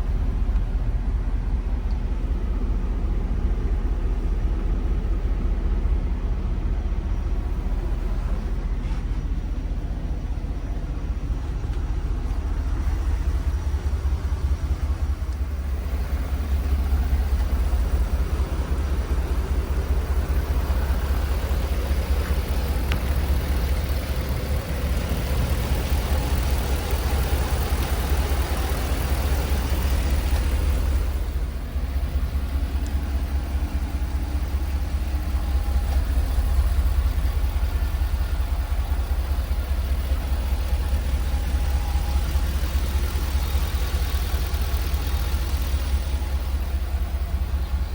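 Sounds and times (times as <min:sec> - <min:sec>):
truck engine rumbling: 0:00.0 - 0:47.9.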